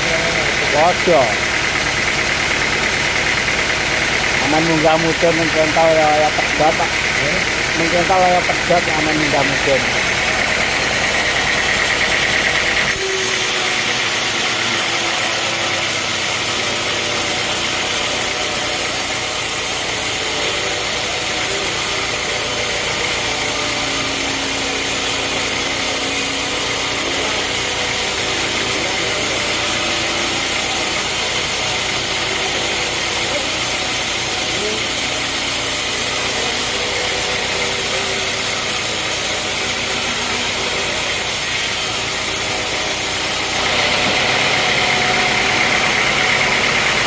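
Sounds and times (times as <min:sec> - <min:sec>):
high machine whine: 0:00.0 - 0:47.0
sawmill machinery whirr: 0:00.0 - 0:47.0.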